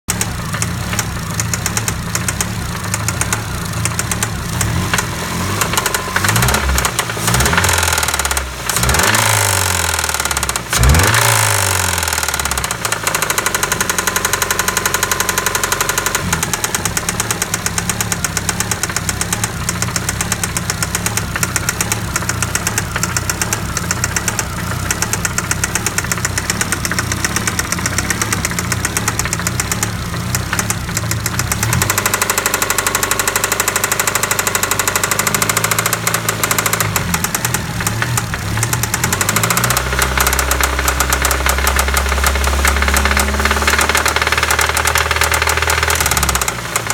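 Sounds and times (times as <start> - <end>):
car engine idling with rattling tick: 0.1 - 46.9.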